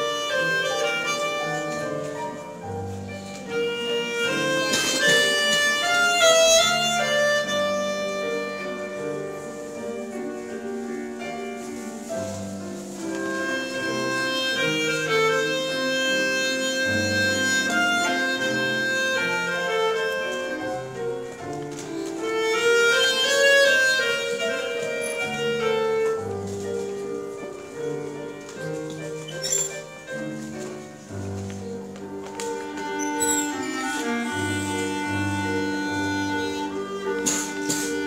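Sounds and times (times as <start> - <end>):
clarinet melody: 0.0 - 38.0
piano accompaniment: 0.0 - 38.0.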